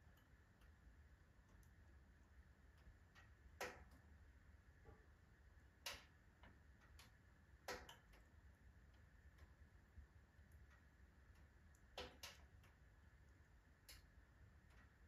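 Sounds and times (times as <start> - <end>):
firewood crackling in a stove: 0.0 - 15.0.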